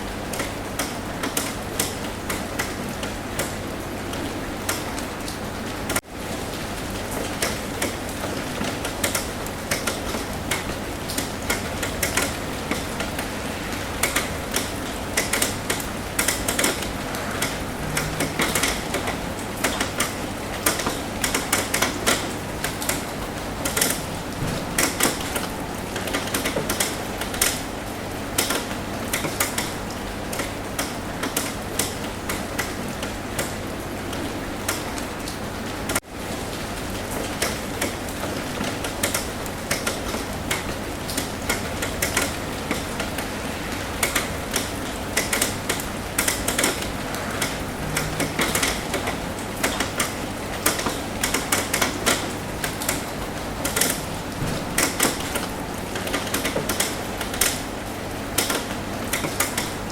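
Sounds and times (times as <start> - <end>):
rain drops tapping on a roof: 0.0 - 59.9
steady hiss of rain: 0.0 - 59.9.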